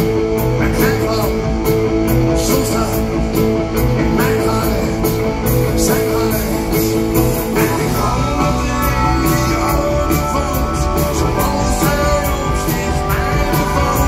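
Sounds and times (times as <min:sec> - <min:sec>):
rock band playing live: 0:00.0 - 0:14.0
man singing: 0:00.4 - 0:14.0.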